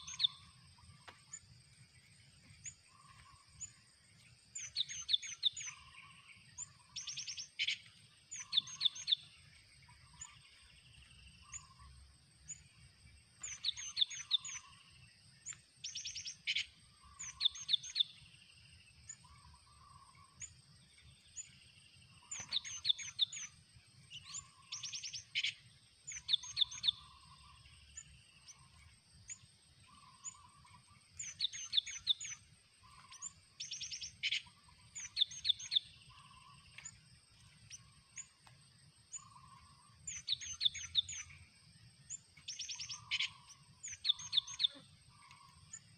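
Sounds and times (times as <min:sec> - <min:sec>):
birds calling with sharp high notes: 0:00.0 - 0:45.9.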